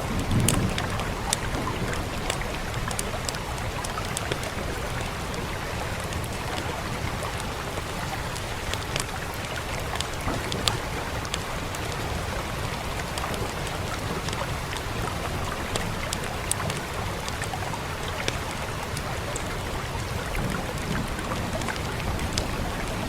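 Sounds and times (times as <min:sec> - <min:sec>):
steady rain hiss: 0:00.0 - 0:23.0
wood fire crackling: 0:00.1 - 0:23.0.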